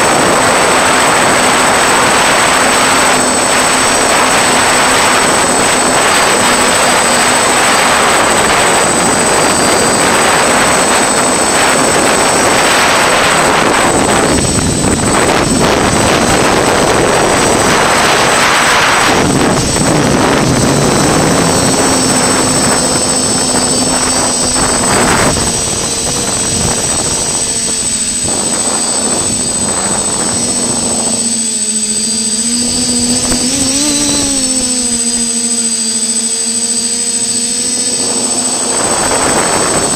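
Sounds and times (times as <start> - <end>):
drone motors whirring: 0.0 - 39.9.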